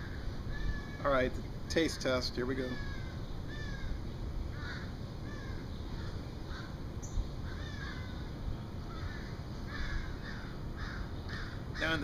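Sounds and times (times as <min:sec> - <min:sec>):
birds calling: 0:00.0 - 0:12.0
low background noise: 0:00.0 - 0:12.0.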